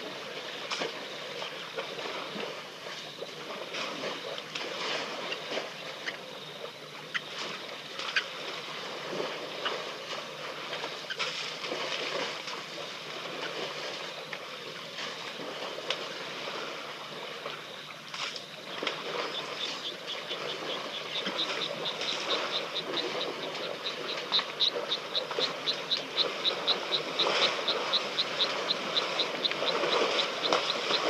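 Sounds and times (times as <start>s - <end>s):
water noise: 0.0s - 31.0s
wind: 0.0s - 31.0s.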